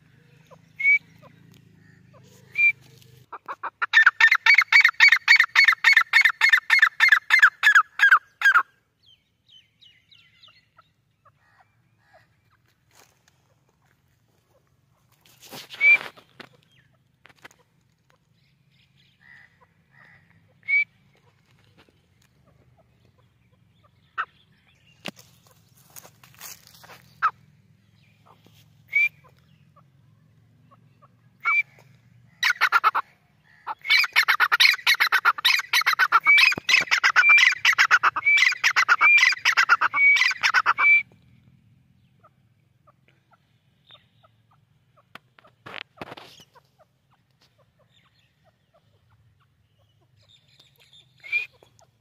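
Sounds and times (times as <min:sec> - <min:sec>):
bird calling: 0:00.0 - 0:52.0.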